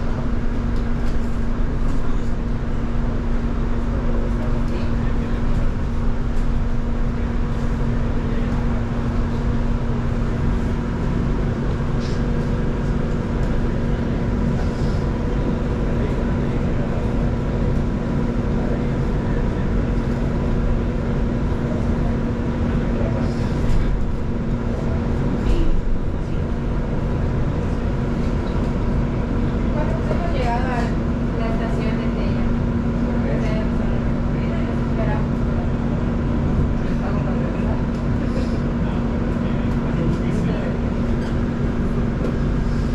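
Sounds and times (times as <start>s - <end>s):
road and running noise: 0.0s - 42.9s.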